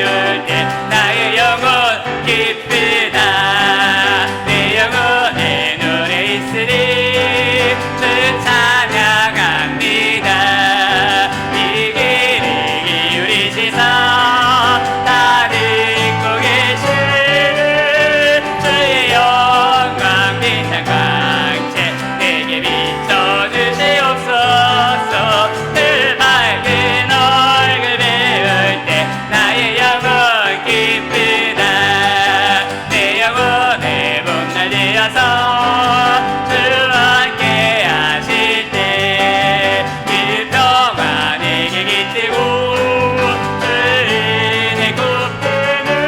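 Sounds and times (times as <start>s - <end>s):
praise band playing hymn: 0.0s - 46.0s.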